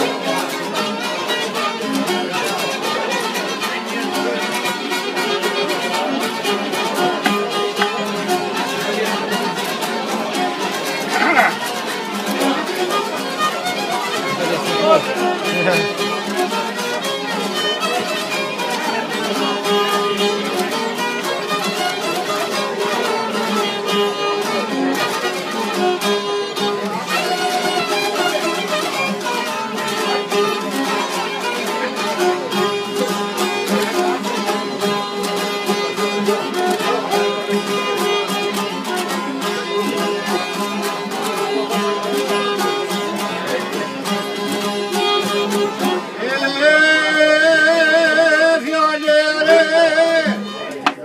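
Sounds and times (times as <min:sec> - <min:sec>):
plucked lutes playing: 0:00.0 - 0:51.0.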